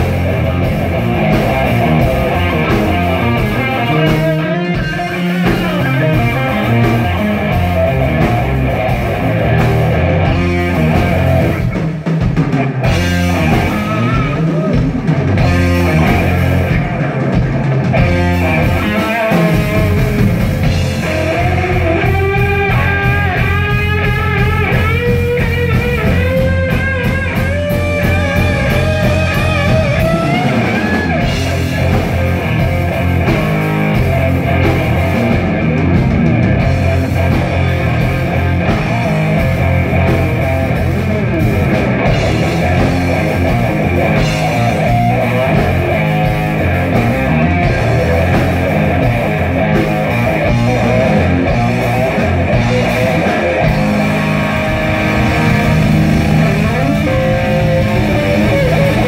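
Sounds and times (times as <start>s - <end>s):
rock band playing: 0.0s - 59.0s
wavering lead guitar melody: 0.0s - 59.0s.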